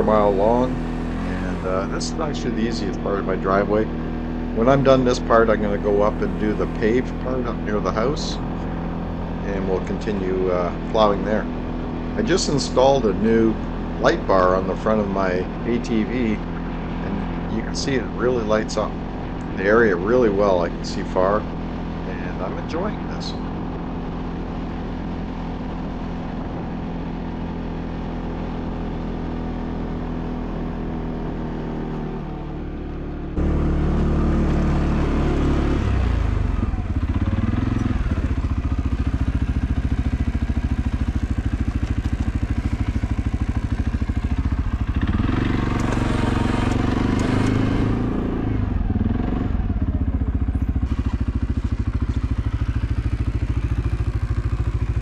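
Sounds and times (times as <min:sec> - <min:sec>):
atv engine plowing snow: 0:00.0 - 0:55.0.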